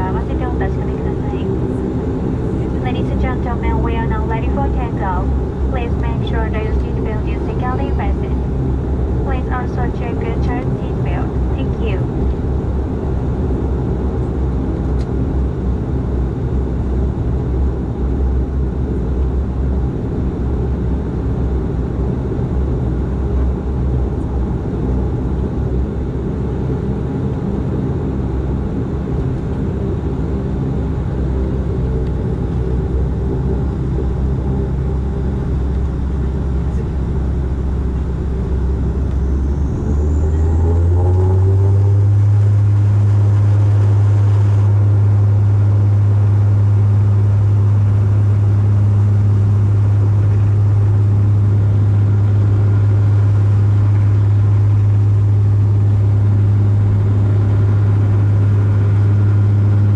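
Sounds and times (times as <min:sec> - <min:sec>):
turboprop cabin drone: 0:00.0 - 0:59.9.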